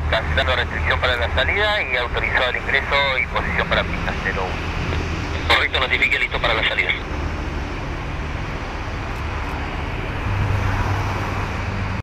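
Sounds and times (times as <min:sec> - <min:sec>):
jet engines whining: 0:00.0 - 0:11.9.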